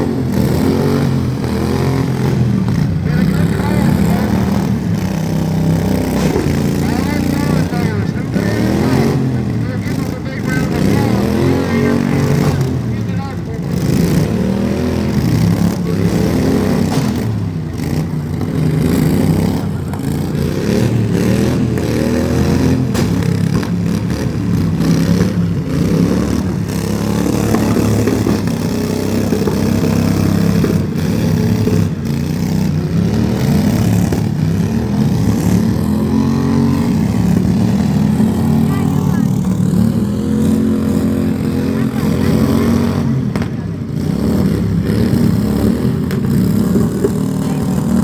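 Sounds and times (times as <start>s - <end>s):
vehicle engine revving: 0.0s - 48.0s.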